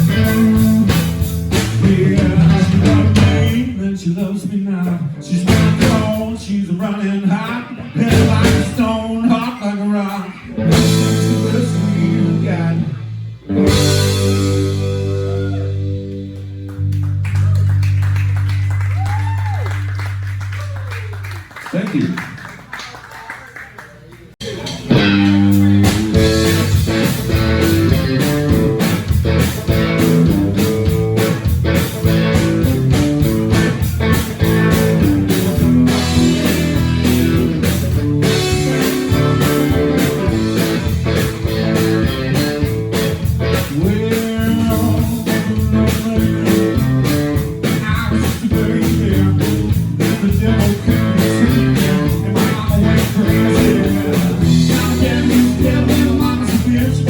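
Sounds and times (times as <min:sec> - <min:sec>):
blues-rock band playing: 0:00.0 - 0:21.3, 0:24.4 - 0:57.0.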